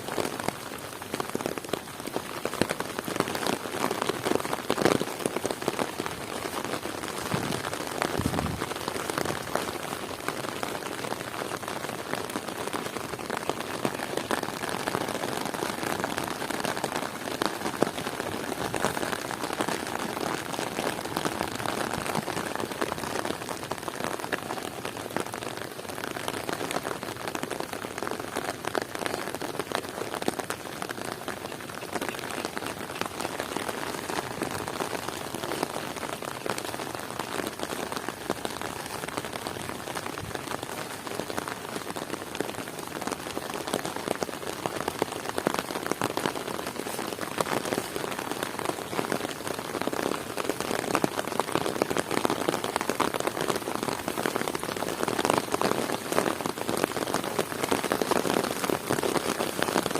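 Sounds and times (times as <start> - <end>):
close raindrop impacts: 0.0 - 59.9
heavy rain falling: 0.0 - 59.9.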